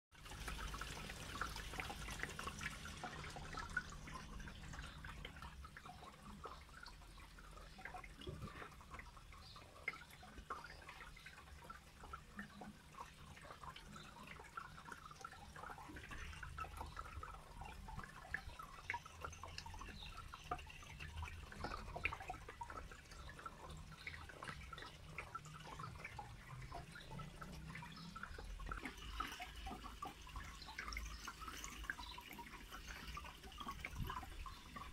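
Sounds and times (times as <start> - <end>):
water drips and bubble pops: 0.2 - 34.9.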